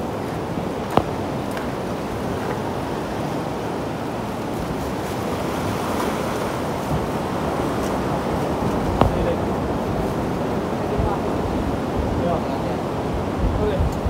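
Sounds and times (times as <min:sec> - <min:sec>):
waves washing on rocks: 0:00.0 - 0:14.0.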